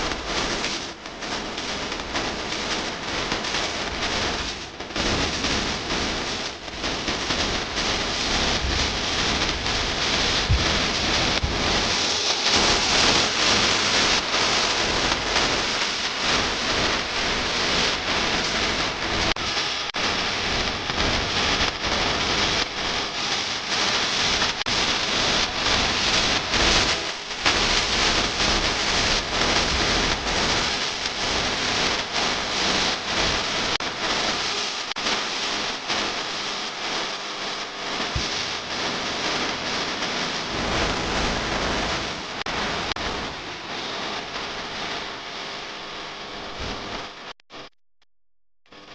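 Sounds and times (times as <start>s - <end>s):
steady rushing hiss: 0.0s - 47.0s
small crackles: 0.0s - 47.7s.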